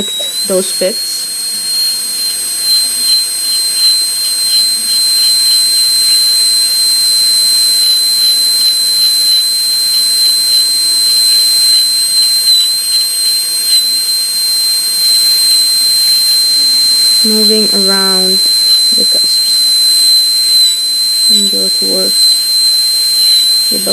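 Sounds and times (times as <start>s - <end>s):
dental drill whine and air hiss: 0.0s - 23.9s.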